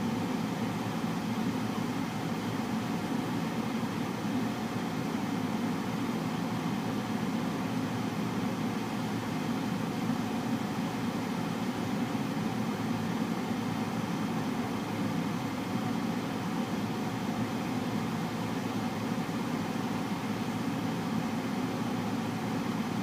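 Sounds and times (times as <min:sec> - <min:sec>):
car air conditioner running: 0:00.0 - 0:23.0.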